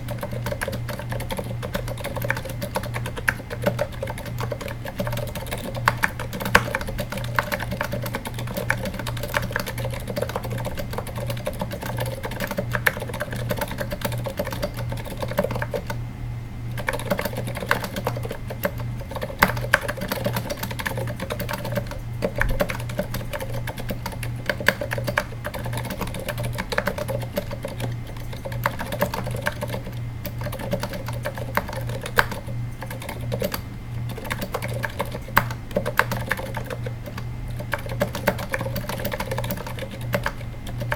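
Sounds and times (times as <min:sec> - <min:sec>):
soft muted keyboard typing: 0:00.0 - 0:16.0, 0:16.8 - 0:40.9.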